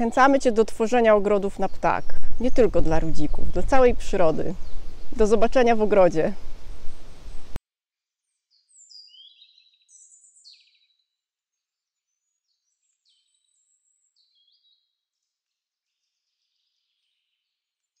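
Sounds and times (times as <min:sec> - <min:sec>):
songbird singing: 0:00.0 - 0:07.6, 0:08.5 - 0:11.1, 0:12.0 - 0:15.3, 0:15.9 - 0:18.0.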